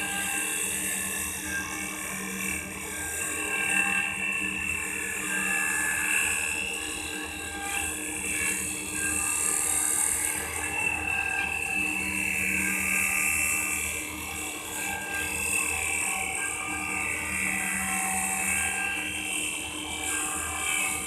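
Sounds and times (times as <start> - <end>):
lathe motor whine: 0.0 - 21.0.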